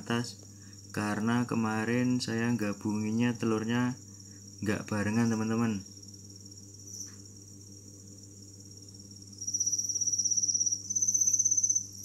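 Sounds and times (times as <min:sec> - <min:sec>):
cricket chirping: 0:00.0 - 0:12.0
low steady hum: 0:00.0 - 0:12.0.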